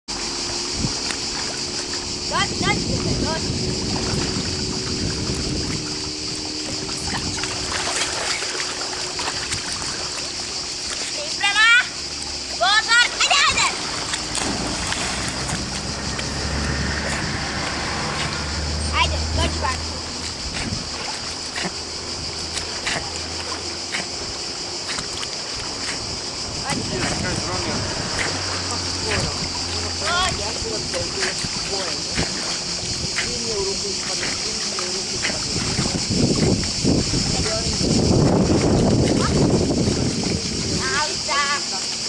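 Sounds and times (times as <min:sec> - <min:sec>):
wind: 0:00.0 - 0:42.0
water noise: 0:00.1 - 0:42.0.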